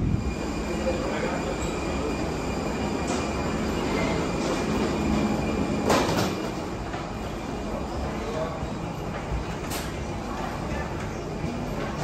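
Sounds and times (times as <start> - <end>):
constant whine: 0.0 - 12.0.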